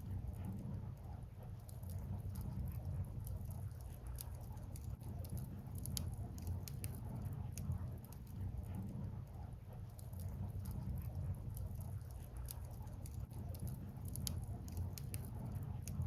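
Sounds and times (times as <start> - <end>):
firewood crackling: 1.8 - 8.6, 9.9 - 16.0.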